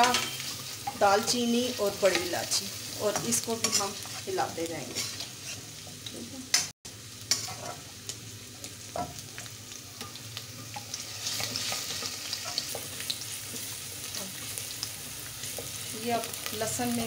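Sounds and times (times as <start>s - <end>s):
onions and spices sizzling in oil: 0.0s - 17.0s.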